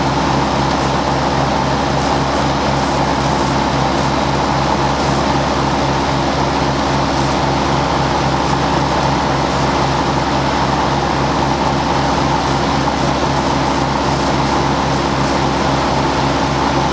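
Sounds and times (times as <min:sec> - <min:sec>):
ride-on mower engine running: 0:00.0 - 0:16.9.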